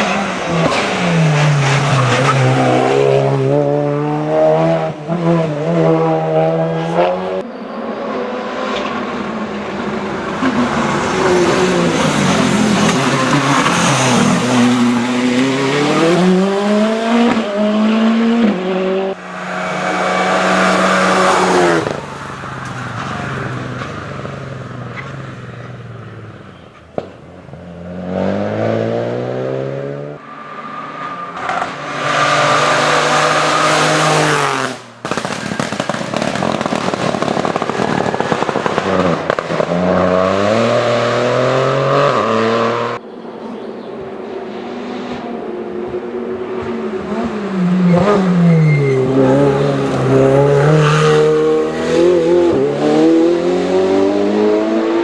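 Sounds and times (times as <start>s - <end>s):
race car engines accelerating: 0.0s - 26.7s, 27.5s - 55.0s.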